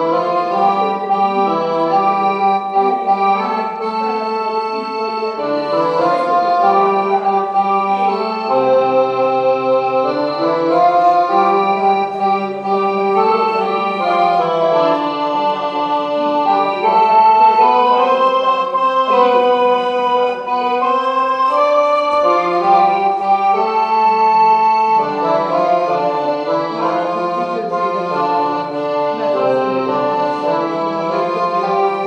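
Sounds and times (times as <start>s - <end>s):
slow instrumental organ music: 0.0s - 32.0s.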